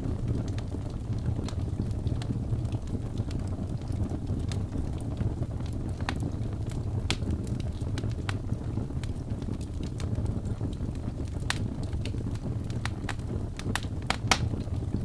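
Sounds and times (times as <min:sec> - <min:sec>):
flames rumbling: 0:00.0 - 0:15.0
logs crackling and popping: 0:00.0 - 0:15.0.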